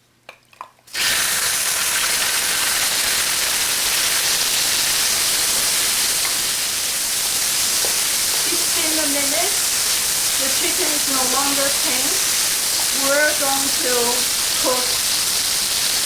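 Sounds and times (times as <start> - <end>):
chicken sizzling in hot oil: 0.9 - 16.0.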